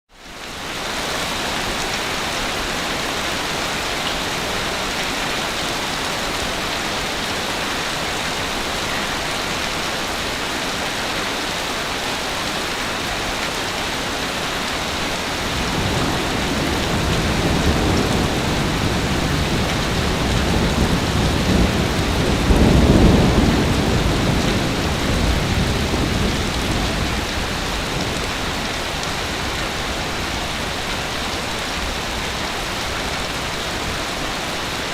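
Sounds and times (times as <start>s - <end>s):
sea waves washing onto beach: 0.3s - 34.9s.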